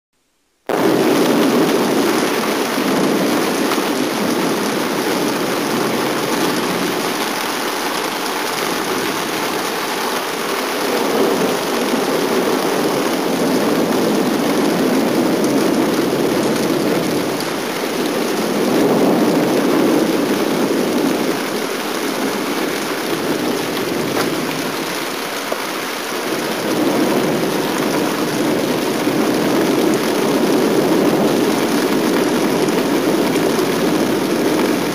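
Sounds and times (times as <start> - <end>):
steady rain: 0.2 - 34.9
distant thunder rumbling: 0.7 - 34.9.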